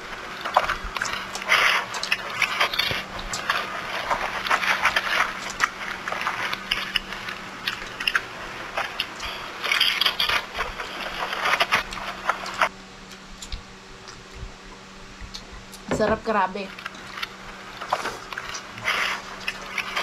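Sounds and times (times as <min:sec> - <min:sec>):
chewing and lip-smacking: 0:00.0 - 0:15.9, 0:16.7 - 0:20.0.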